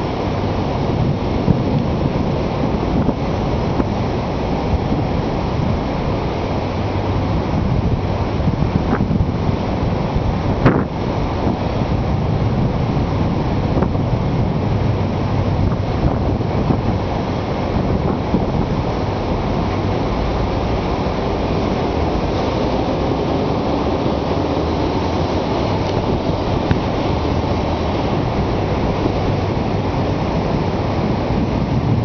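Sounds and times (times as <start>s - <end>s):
storm wind buffeting microphone: 0.0s - 32.0s.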